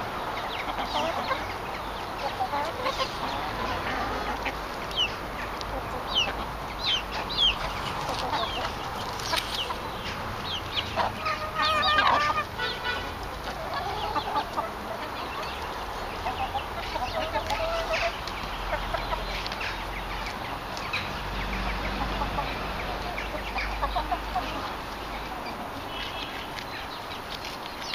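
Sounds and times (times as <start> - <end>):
hens clucking: 0.0 - 27.9.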